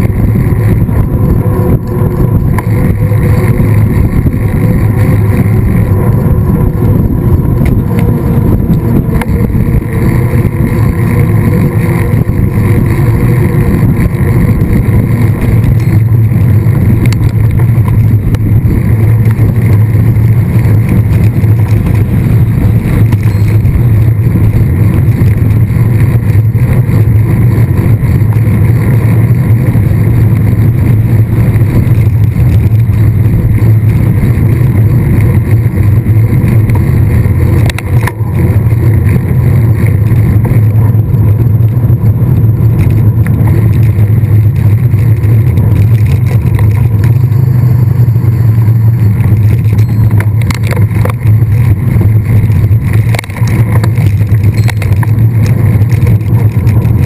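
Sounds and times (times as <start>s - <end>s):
tyre noise on trail: 0.0s - 57.0s
wind buffeting microphone: 0.0s - 57.0s.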